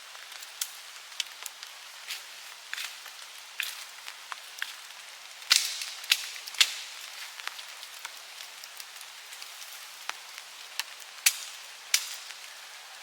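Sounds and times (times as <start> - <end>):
light steady hiss: 0.0 - 13.0.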